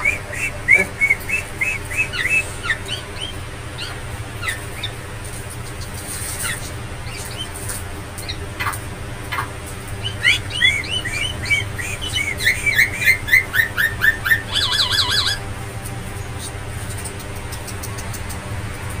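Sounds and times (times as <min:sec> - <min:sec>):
myna chirping and warbling: 0:00.0 - 0:18.4
steady low hum: 0:00.0 - 0:19.0.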